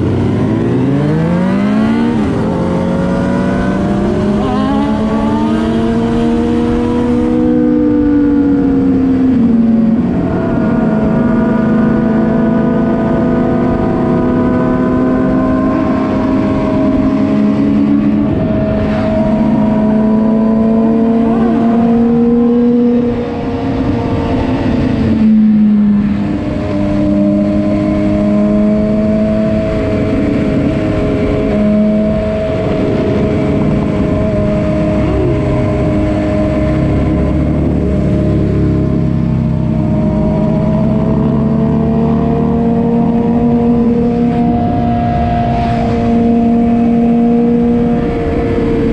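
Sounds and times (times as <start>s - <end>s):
constant rushing noise: 0.0s - 48.9s
vehicle engine cruising: 0.0s - 48.9s.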